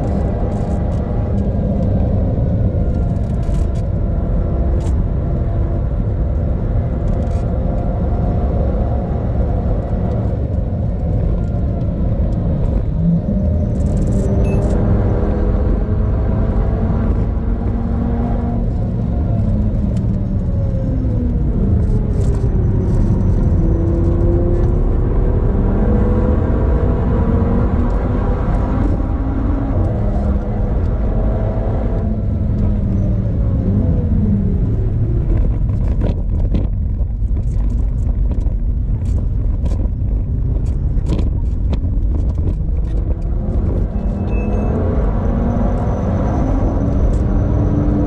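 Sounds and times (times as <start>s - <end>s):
car engine pulling hard: 0.0s - 48.0s
road and wind rumble: 0.0s - 48.0s.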